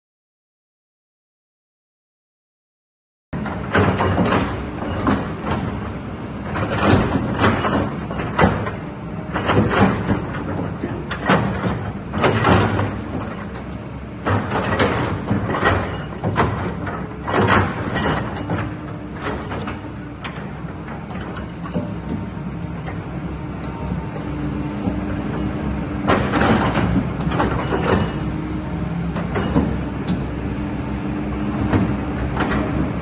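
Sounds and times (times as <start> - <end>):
excavator diesel engine droning: 3.4 - 33.0.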